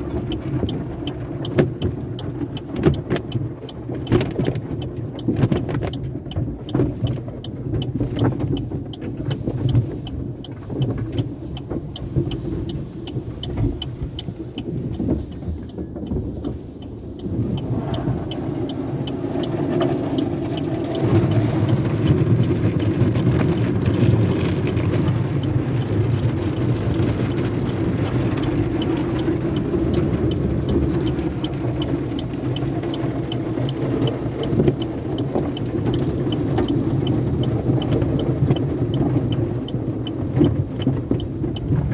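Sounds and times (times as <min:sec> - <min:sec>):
fast regular ticking: 0:00.0 - 0:41.9
water and machinery washing noise: 0:00.0 - 0:41.9.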